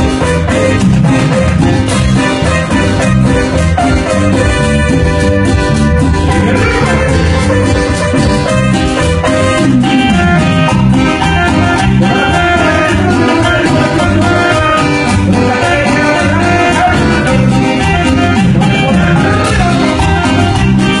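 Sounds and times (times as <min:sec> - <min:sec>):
cumbia band playing: 0:00.0 - 0:21.0.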